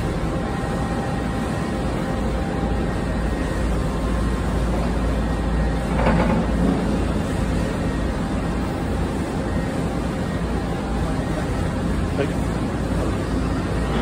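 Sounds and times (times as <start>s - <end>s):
wire drawing machine humming: 0.0s - 14.0s.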